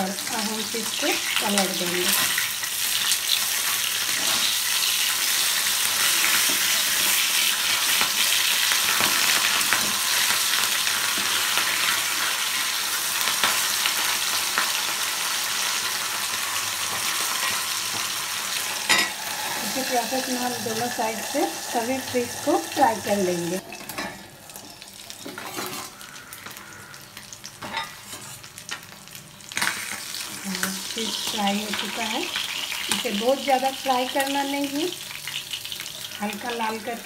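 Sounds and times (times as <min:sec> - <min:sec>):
fish sizzling in oil: 0:00.0 - 0:37.0.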